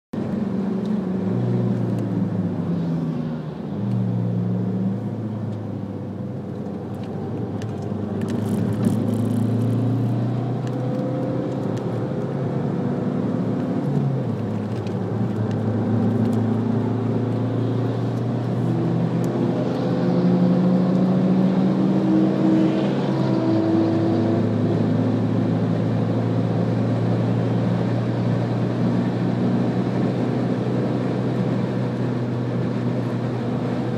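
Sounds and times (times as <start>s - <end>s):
car engine in cabin: 0.2s - 33.9s.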